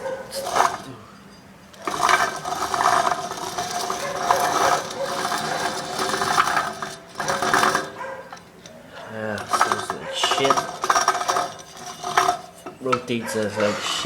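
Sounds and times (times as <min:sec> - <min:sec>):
wheel bearing grinding: 0:00.0 - 0:14.0.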